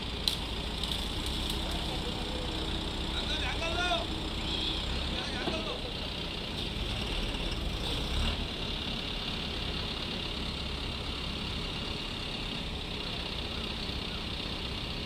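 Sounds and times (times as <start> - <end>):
crane engines rumbling: 0.0 - 15.0.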